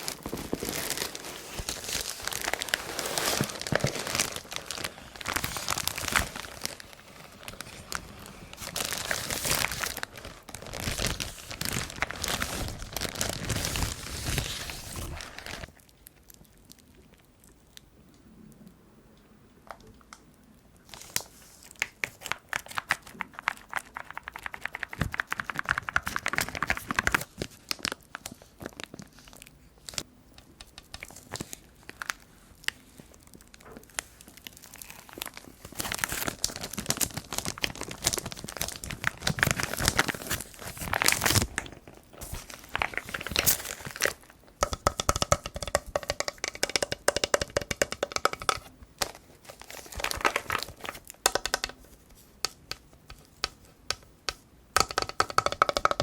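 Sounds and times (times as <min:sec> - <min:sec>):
packaging crinkling and tearing: 0:00.0 - 0:16.5, 0:20.9 - 0:30.0, 0:31.0 - 0:51.7.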